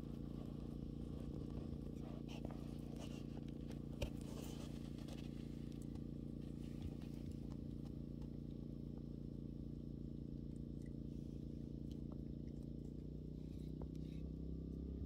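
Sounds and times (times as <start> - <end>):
low hum of stacked tones: 0.0 - 15.0.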